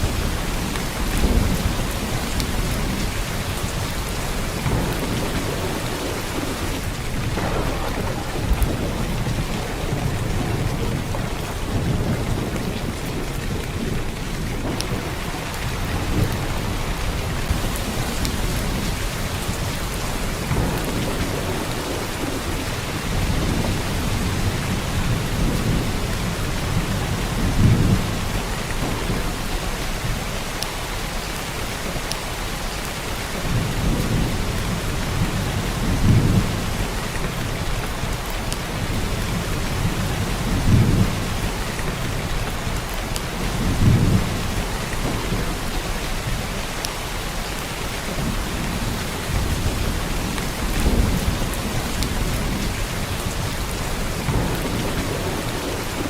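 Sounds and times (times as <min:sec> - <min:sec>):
thunder rumbling: 0:00.0 - 0:30.6, 0:33.3 - 0:56.0
heavy rain hissing: 0:00.0 - 0:56.0.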